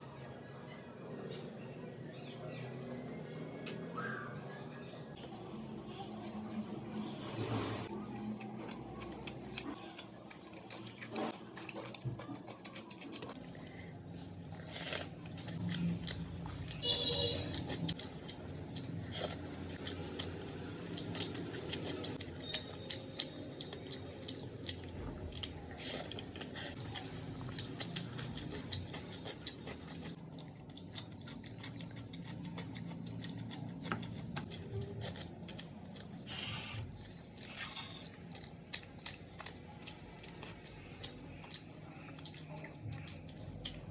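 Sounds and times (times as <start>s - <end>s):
person chewing food: 7.9s - 43.9s.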